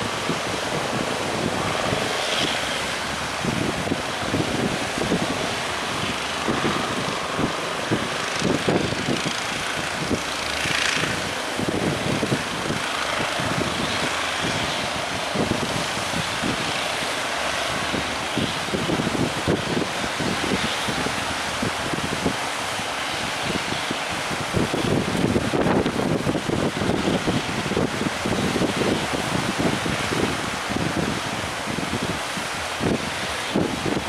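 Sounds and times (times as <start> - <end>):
surf rushing: 0.0 - 34.0
wind buffeting microphone: 0.0 - 34.0.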